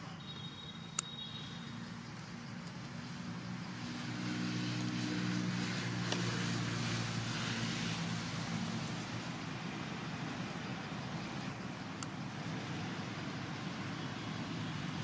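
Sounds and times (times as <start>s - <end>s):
constant hiss: 0.0s - 15.0s.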